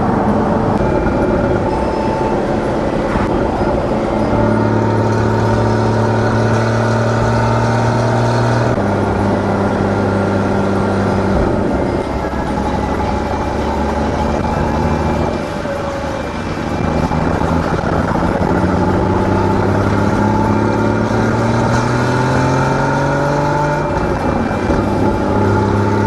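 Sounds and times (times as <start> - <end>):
car engine while driving: 0.0 - 26.0.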